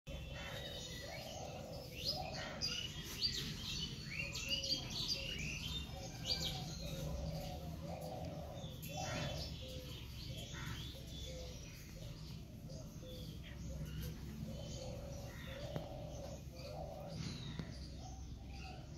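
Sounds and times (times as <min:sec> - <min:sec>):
birds chirping: 0:00.1 - 0:18.9.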